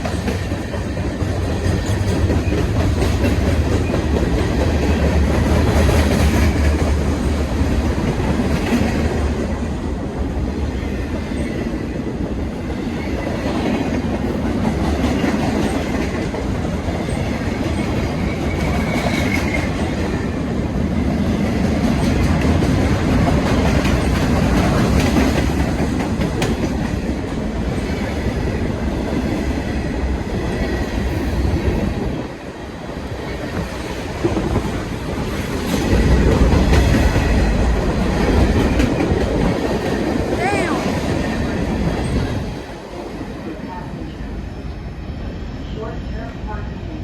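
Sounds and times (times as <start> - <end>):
wheels clickety-clack on rail joints: 0.0 - 44.1
train cars rolling past: 0.0 - 47.0.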